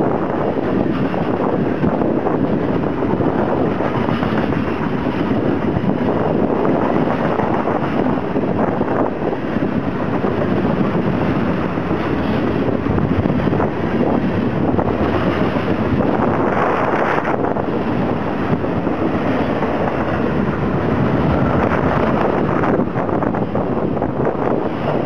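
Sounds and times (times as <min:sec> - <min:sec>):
freight train wheels rumbling on rail: 0:00.0 - 0:25.0
wind buffeting microphone: 0:00.0 - 0:25.0.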